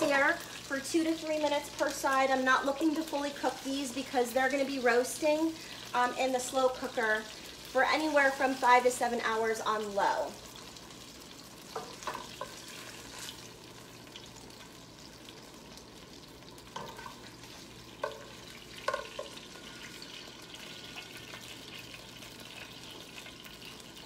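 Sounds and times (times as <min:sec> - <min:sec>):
oil sizzling in a skillet: 0:00.0 - 0:24.0.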